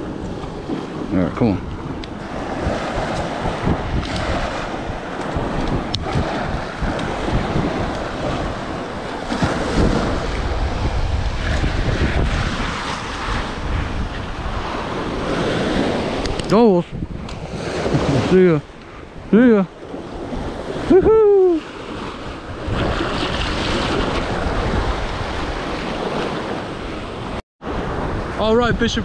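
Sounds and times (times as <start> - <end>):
surf washing onto beach: 0.0 - 29.0
wind buffeting microphone: 0.0 - 29.0.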